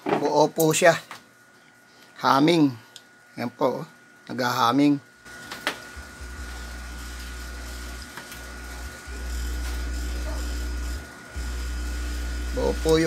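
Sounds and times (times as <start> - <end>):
low mains hum through speaker: 0.0 - 13.0.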